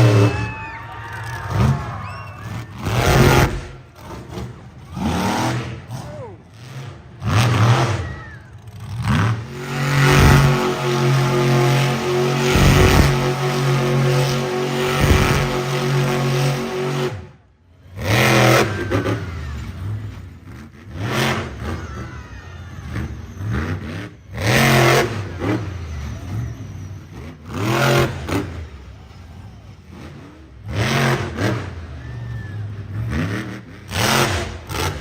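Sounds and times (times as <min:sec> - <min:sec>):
truck engine revving: 0:00.0 - 0:22.1, 0:22.7 - 0:35.0.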